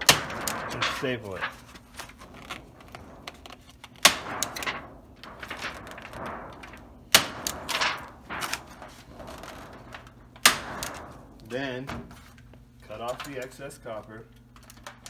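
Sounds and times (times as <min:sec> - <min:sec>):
metal sheet crinkling: 0:00.0 - 0:15.0.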